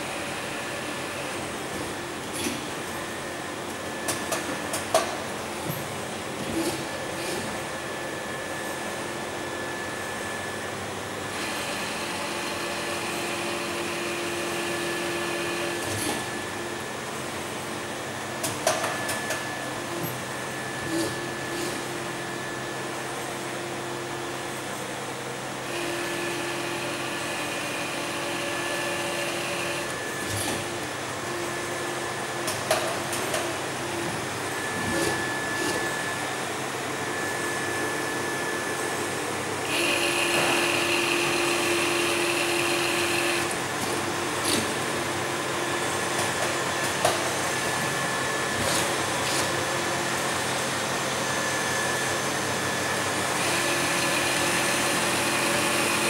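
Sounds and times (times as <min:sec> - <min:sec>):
machine motor hum and whine: 0:00.0 - 0:56.0.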